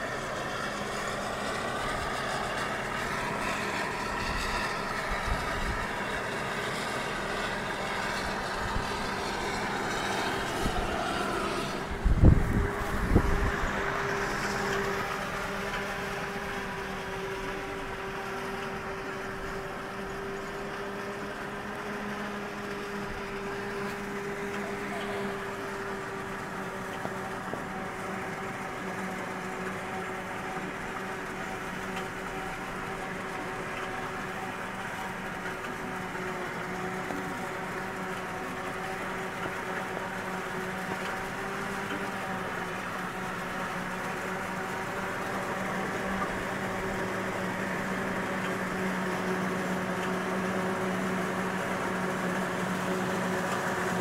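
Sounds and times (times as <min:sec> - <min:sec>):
machinery drone with humming whine: 0:00.0 - 0:54.0.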